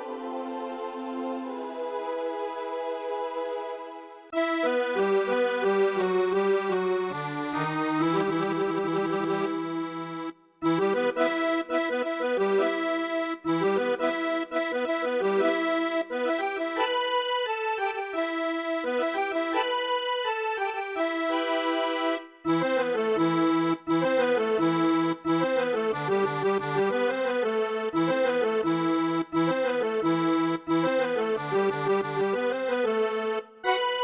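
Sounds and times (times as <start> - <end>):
electronic keyboard melody: 0.0 - 34.0.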